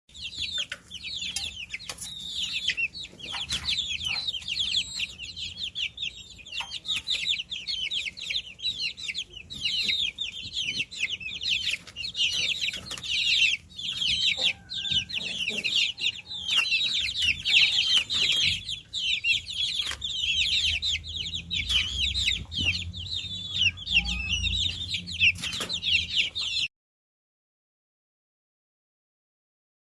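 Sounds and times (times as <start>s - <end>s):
baby chicks peeping: 0.1s - 26.7s.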